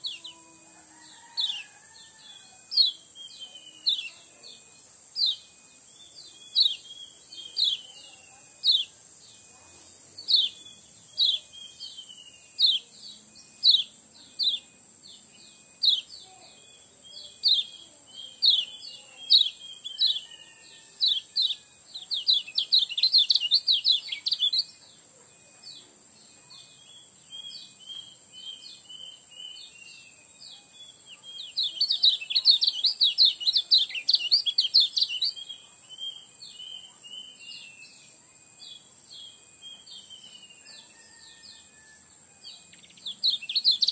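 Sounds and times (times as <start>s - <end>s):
songbird fast chattering song: 0.0s - 43.9s
songbird sharp chirps: 0.0s - 43.9s.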